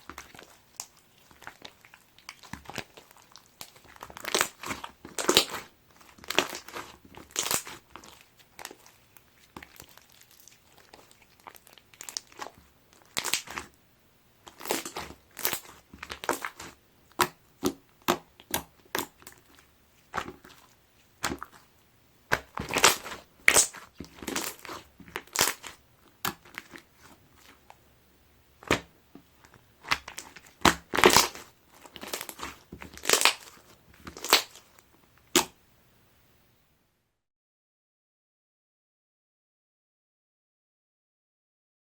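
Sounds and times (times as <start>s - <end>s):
slime squelching: 0.0s - 13.8s, 14.4s - 27.8s, 28.6s - 35.6s.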